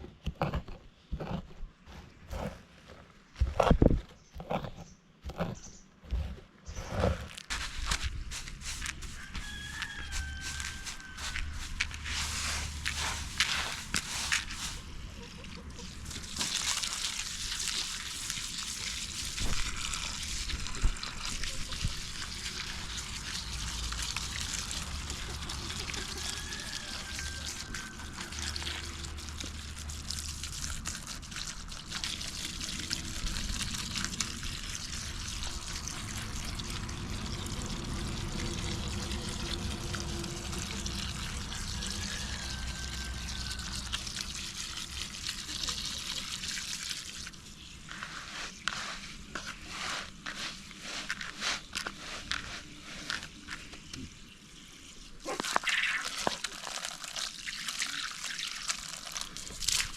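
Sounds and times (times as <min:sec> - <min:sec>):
water running and trickling: 0:08.2 - 0:14.9, 0:15.9 - 0:59.9.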